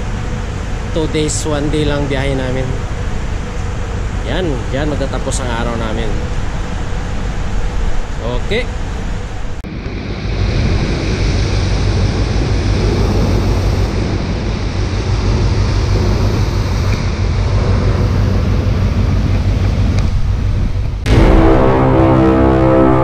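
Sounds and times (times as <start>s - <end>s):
wind buffeting microphone: 0.0s - 21.3s
low ship engine hum: 0.0s - 23.0s
ship wake water rushing: 0.0s - 23.0s.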